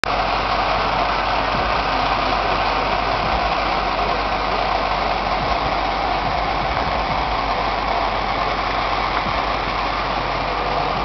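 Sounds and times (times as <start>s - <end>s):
steady rushing noise in vehicle: 0.0s - 11.0s.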